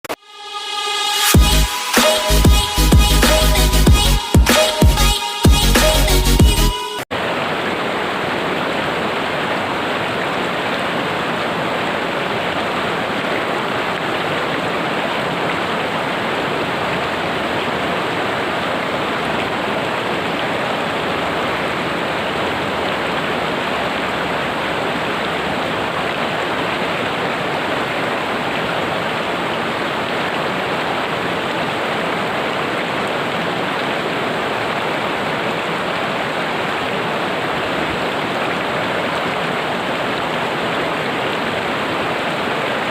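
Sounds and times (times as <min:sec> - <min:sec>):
river rushing: 0:06.8 - 0:42.9.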